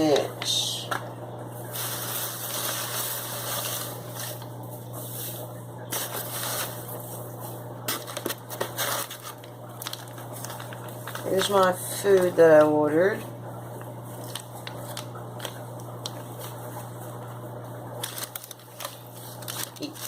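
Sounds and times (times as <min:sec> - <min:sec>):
low steady hum: 0:00.0 - 0:20.0
packing material crinkling: 0:01.6 - 0:12.8, 0:13.8 - 0:17.0, 0:18.0 - 0:20.0.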